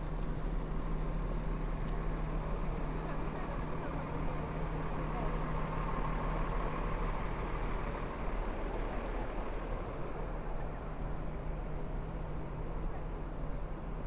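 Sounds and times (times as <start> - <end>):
city street traffic: 0.0 - 14.0
low engine hum: 0.0 - 14.0.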